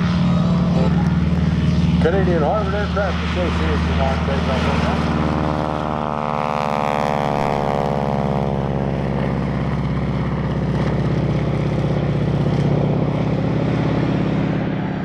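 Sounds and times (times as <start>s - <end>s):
propeller plane engine at full power: 0.0s - 15.0s.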